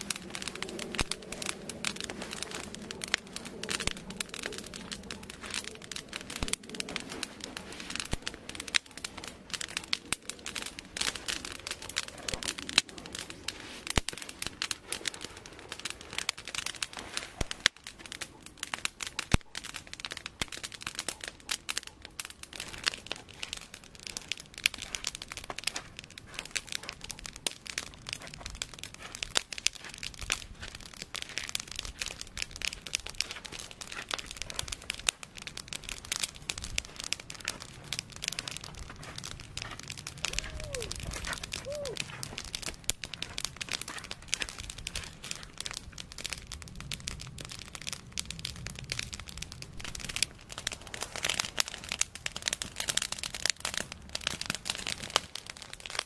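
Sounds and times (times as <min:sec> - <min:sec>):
campfire sticks crackling: 0:00.0 - 0:56.0.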